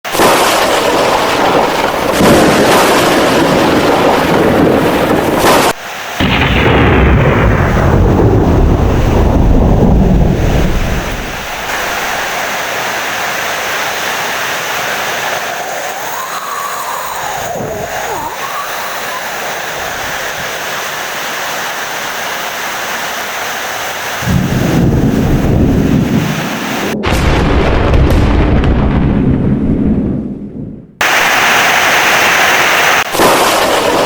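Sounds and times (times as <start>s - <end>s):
heavy rain: 0.0s - 28.9s, 31.0s - 34.0s
thunder rumble: 0.1s - 20.5s, 24.2s - 34.0s.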